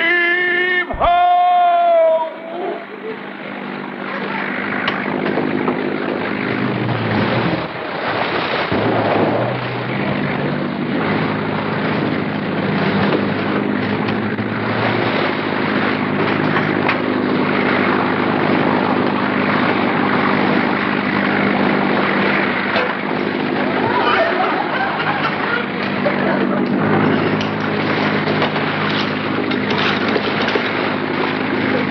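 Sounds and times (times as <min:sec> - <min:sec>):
motorboat engine drone: 0:00.0 - 0:31.9
rushing water noise: 0:00.9 - 0:31.9.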